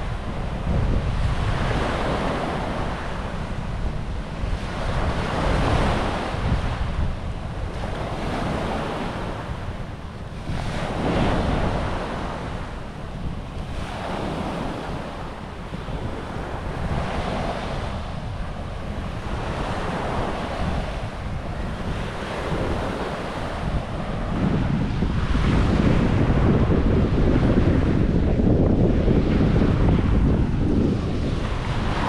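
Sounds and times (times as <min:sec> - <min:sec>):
small waves on sandy beach: 0:00.0 - 0:32.0
wind buffeting microphone: 0:00.0 - 0:32.0.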